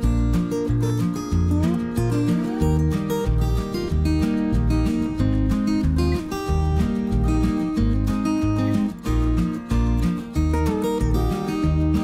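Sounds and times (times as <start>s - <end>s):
bass line: 0.0s - 12.0s
strummed acoustic guitar: 0.0s - 12.0s.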